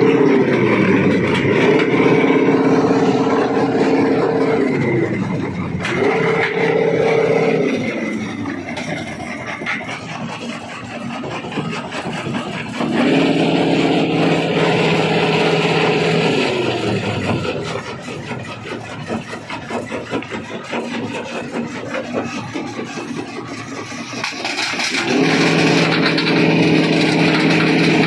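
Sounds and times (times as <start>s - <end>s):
rock crusher grinding stone: 0.0s - 28.0s
steady engine drone: 0.0s - 28.0s.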